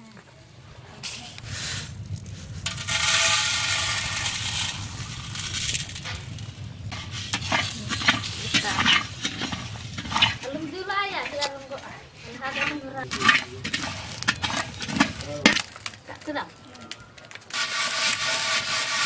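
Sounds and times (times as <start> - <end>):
metal spatula scraping pan: 1.0 - 15.7, 17.5 - 19.0
seeds poured into metal pan: 1.0 - 19.0.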